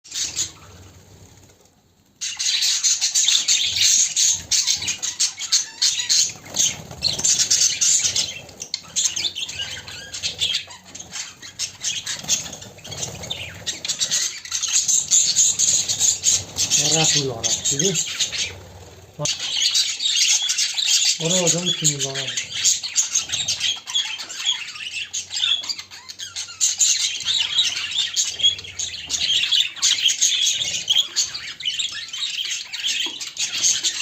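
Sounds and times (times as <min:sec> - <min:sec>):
budgerigars chattering and chirping: 0:00.1 - 0:01.4, 0:02.2 - 0:34.0.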